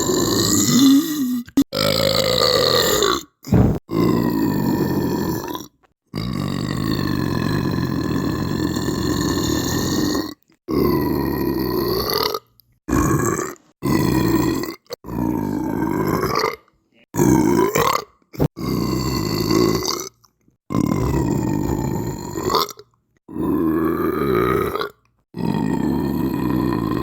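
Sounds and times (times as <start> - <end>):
person belching: 0.0 - 5.6, 6.2 - 27.0.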